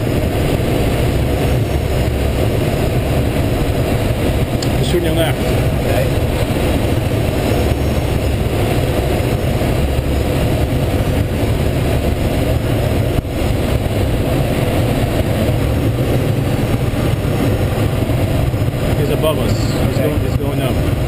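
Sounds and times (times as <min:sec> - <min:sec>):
rushing airflow in glider cockpit: 0:00.0 - 0:21.0.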